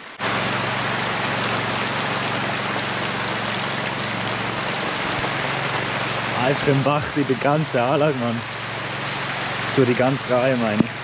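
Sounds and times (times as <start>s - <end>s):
heavy rain: 0.0s - 11.0s
rainwater running: 0.0s - 11.0s.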